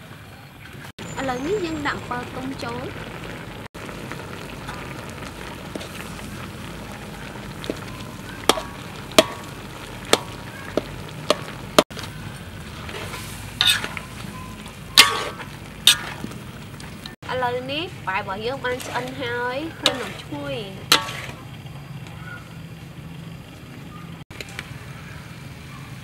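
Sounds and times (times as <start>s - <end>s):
stir-fry sizzling in a wok: 1.0s - 26.0s.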